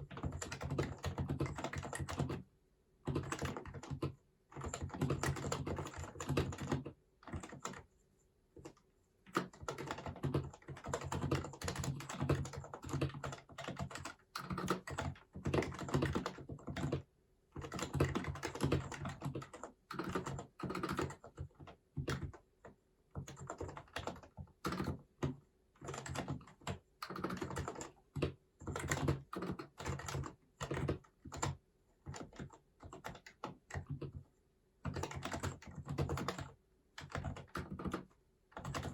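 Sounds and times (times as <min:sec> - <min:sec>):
typing on a keyboard: 0:00.0 - 0:07.9, 0:08.6 - 0:38.9.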